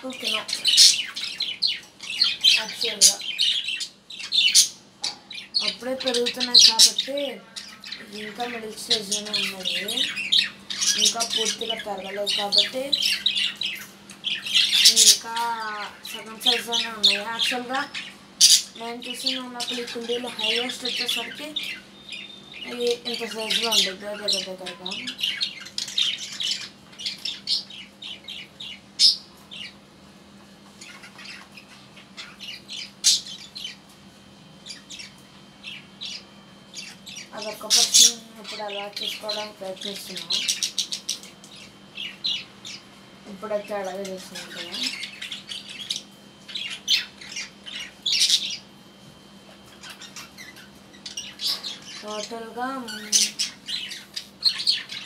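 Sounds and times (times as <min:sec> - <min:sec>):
budgerigars chirping: 0:00.0 - 0:29.8, 0:30.7 - 0:33.8, 0:34.6 - 0:48.7, 0:49.5 - 0:55.0.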